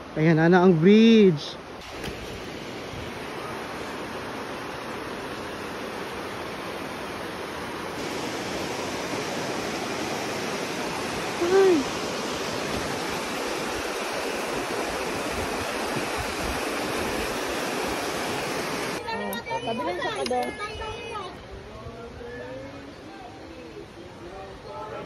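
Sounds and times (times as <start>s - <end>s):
river flowing over stones: 0.0s - 20.2s.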